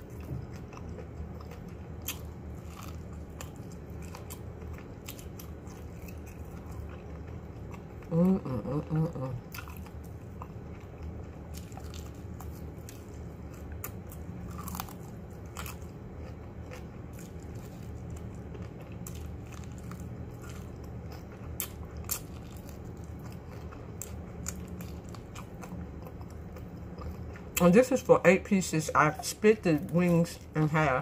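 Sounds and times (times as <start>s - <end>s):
biting and chewing: 0.0s - 8.1s, 9.2s - 27.6s
steady low hum: 0.0s - 31.0s.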